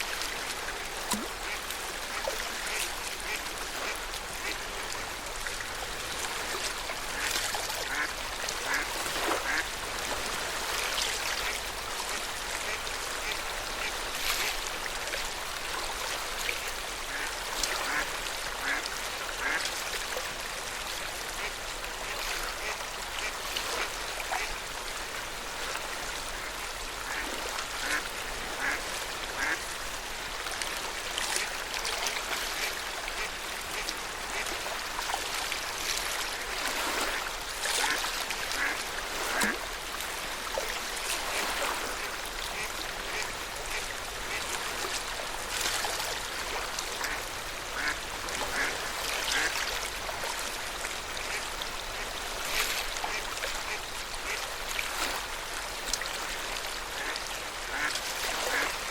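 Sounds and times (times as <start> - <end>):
lake water lapping at shore: 0.0 - 58.9.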